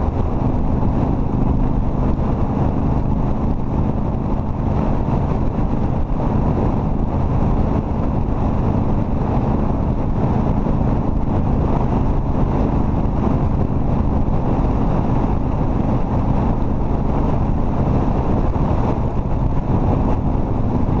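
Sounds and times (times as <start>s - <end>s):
motorcycle engine droning: 0.0s - 21.0s
wind rushing on microphone: 0.0s - 21.0s.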